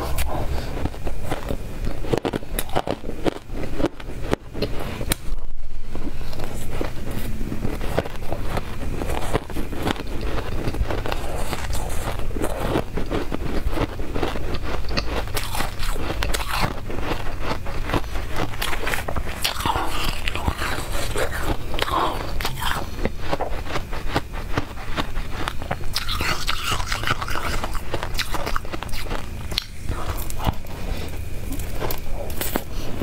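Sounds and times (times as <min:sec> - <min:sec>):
ice crunching being chewed: 0:00.0 - 0:05.2, 0:05.9 - 0:33.0.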